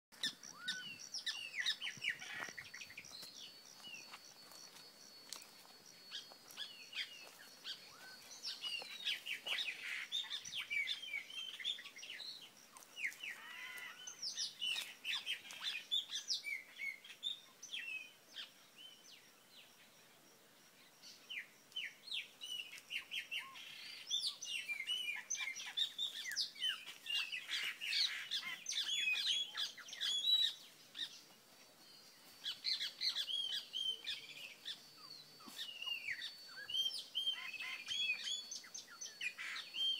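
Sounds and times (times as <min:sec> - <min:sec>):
birds chirping and calling: 0:00.2 - 0:19.8, 0:20.9 - 0:39.9.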